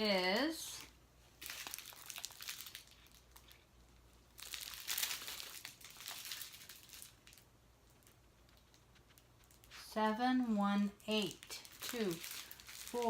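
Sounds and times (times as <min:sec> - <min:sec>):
plastic bags crinkling: 0:00.8 - 0:09.8, 0:11.2 - 0:13.0.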